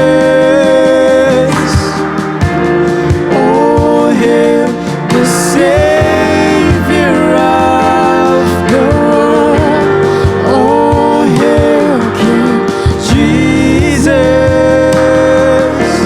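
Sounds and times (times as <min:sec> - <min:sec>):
band accompaniment: 0:00.0 - 0:16.0
person singing: 0:00.0 - 0:16.0.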